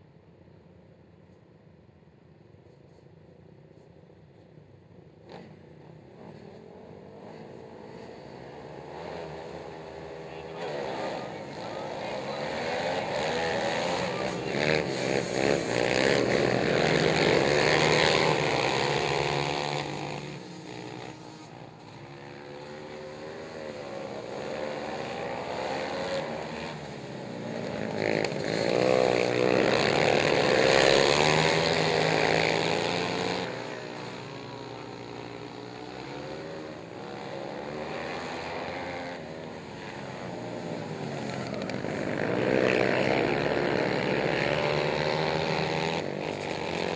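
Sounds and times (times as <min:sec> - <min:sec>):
racing atv engines revving: 0:05.2 - 0:46.9.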